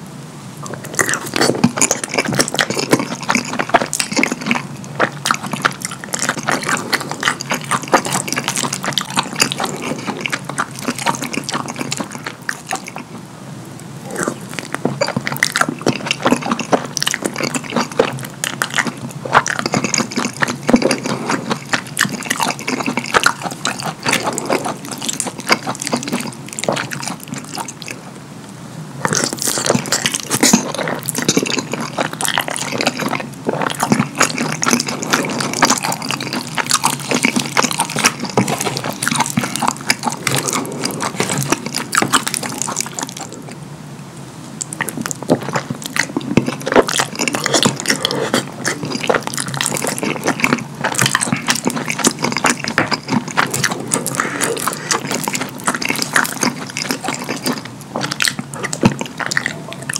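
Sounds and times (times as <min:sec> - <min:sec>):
wet chewing and lip-smacking: 0:00.6 - 0:13.2, 0:14.0 - 0:28.0, 0:29.0 - 0:43.6, 0:44.6 - 0:59.9.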